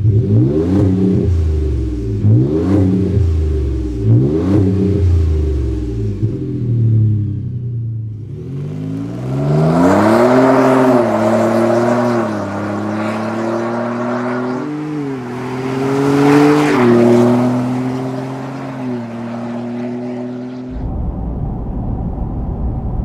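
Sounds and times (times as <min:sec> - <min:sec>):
truck engine accelerating: 0:00.0 - 0:21.2.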